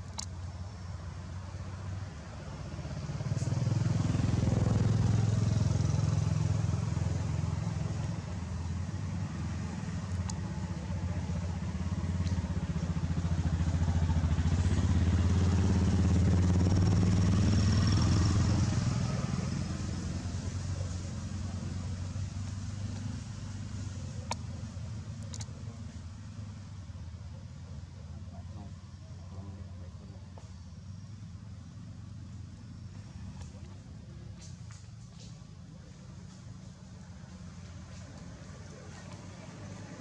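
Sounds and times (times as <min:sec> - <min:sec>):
vehicle engine running low: 0:00.0 - 0:40.0.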